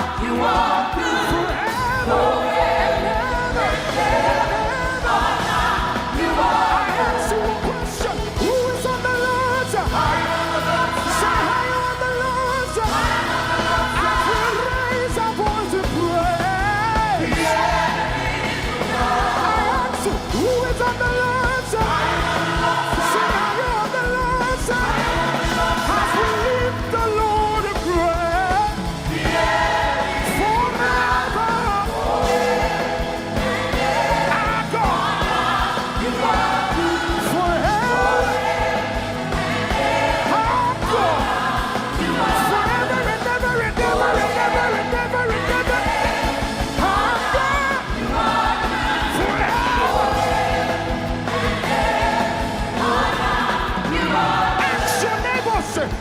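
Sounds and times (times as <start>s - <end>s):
full band playing: 0.0s - 56.0s
lead singer singing: 0.0s - 56.0s.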